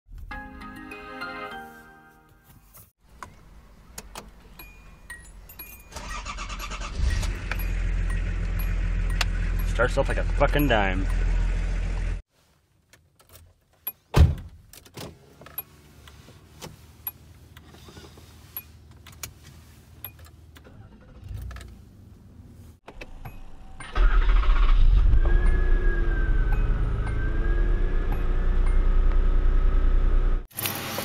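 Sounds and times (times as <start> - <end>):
car engine rumble: 3.0 - 30.5.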